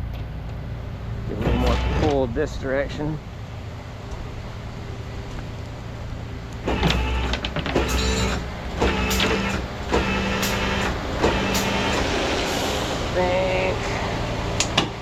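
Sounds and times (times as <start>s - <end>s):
truck engine running: 0.0s - 15.0s
winch whining: 1.2s - 2.3s, 3.9s - 15.0s.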